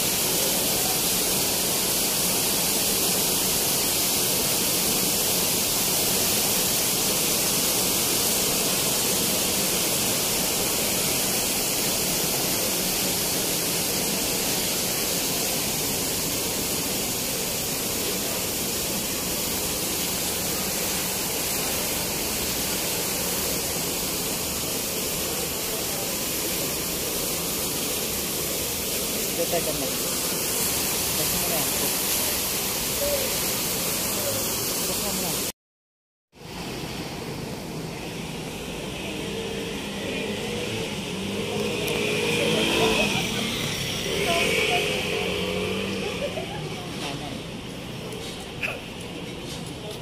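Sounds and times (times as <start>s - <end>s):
rushing water hiss: 0.0s - 35.6s, 36.4s - 50.0s.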